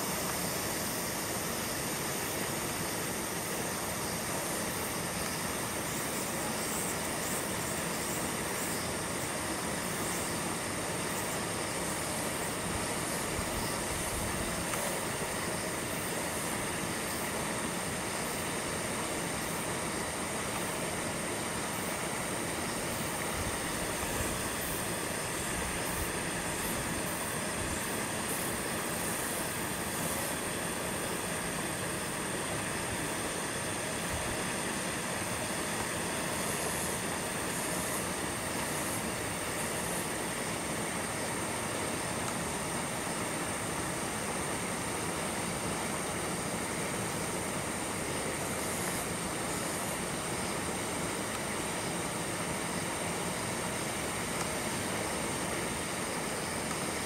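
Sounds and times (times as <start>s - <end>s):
thin high-pitched whine: 0.0s - 57.0s.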